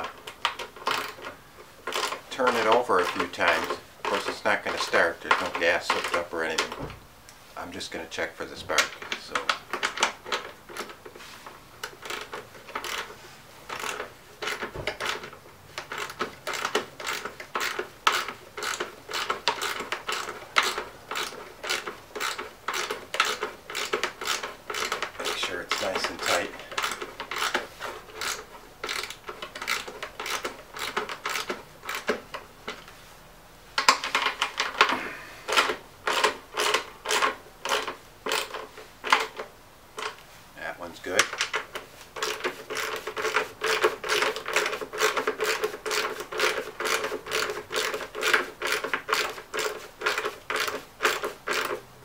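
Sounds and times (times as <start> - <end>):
recoil starter ratcheting clicks: 0.0 - 6.8, 8.7 - 11.2, 11.8 - 33.0, 33.8 - 40.2, 41.1 - 51.9.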